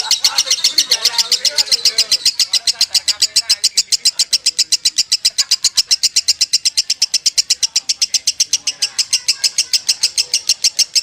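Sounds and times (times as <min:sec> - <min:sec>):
lovebird chirping: 0:00.0 - 0:11.0.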